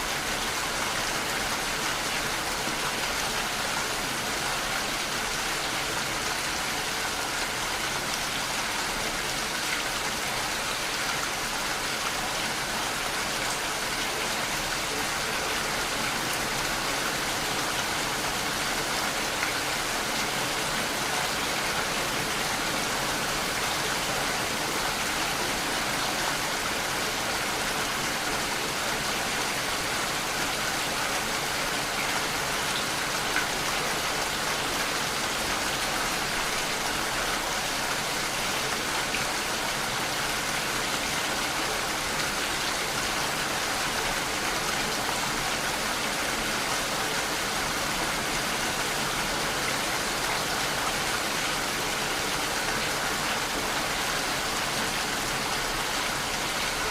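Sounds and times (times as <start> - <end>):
steady rain hissing: 0.0 - 56.9.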